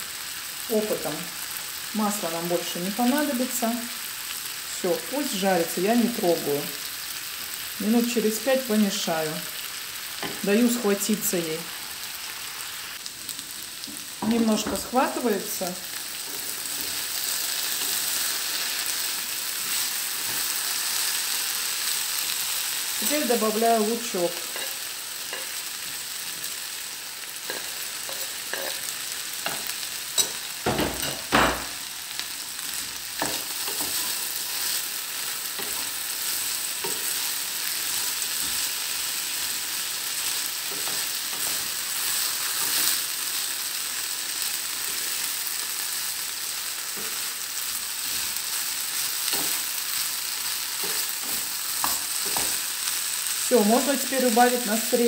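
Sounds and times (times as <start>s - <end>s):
potatoes sizzling in oil: 0.0s - 55.0s.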